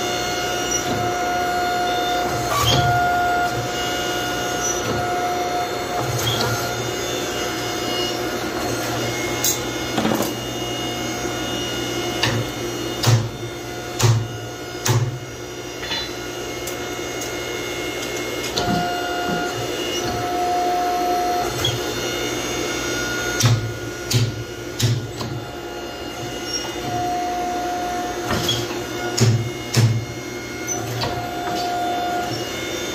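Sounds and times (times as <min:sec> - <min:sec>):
hydraulic press pump hum and whine: 0:00.0 - 0:32.9.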